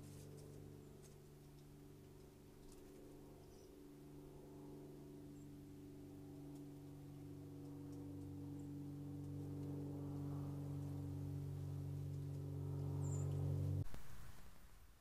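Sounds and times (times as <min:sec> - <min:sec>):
distant engine droning: 0:00.0 - 0:15.0.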